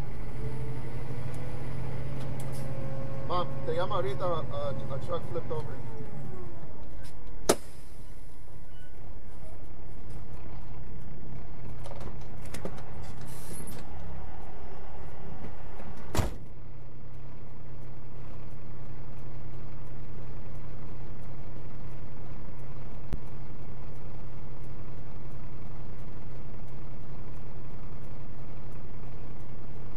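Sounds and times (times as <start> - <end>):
truck engine and road rumble: 0.0 - 29.9.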